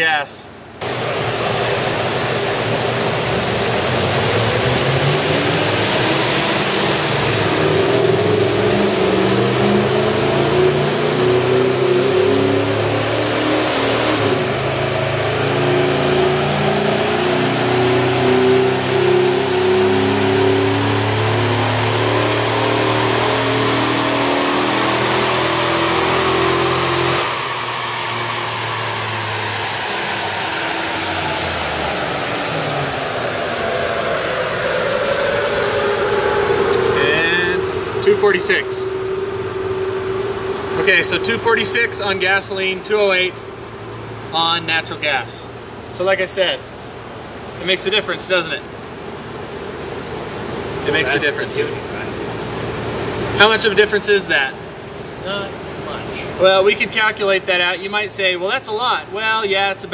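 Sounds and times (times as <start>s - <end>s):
car engine revving at full throttle: 0.0s - 59.9s
cooling fan air rush: 0.0s - 59.9s.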